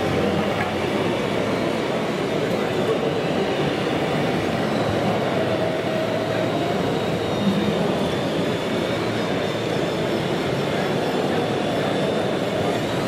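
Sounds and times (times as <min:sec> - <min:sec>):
electric motors and hydraulics running: 0:00.0 - 0:13.0.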